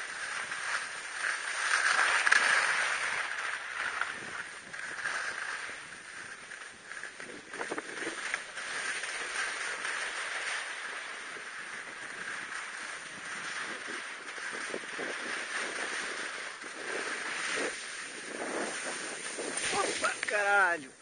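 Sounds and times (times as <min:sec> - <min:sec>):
ski scrapes: 0:00.0 - 0:21.0
skis hissing over snow: 0:00.0 - 0:21.0.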